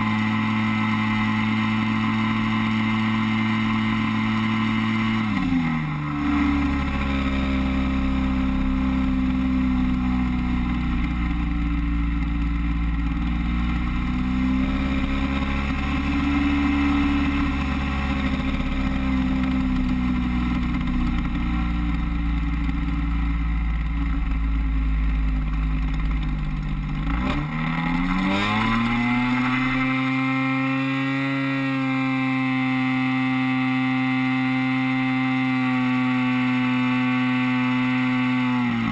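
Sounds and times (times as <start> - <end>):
model plane two-stroke engine: 0.0 - 38.9.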